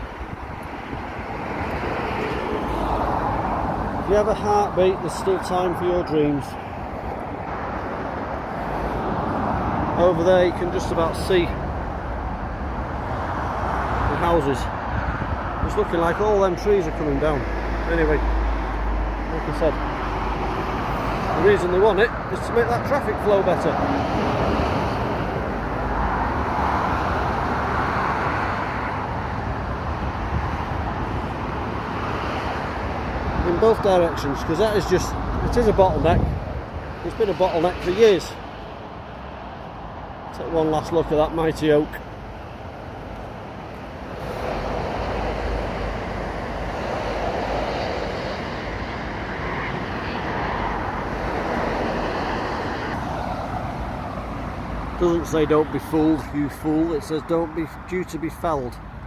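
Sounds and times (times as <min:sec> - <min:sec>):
vehicle passing by: 0:00.0 - 0:57.8
road traffic rush: 0:00.0 - 0:59.0.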